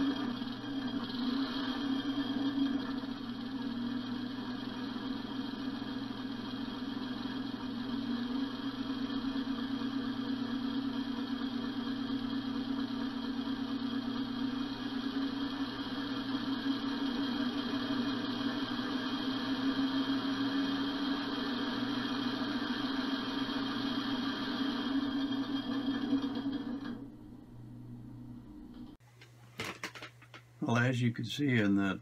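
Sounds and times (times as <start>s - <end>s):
air engine droning: 0.0s - 29.0s.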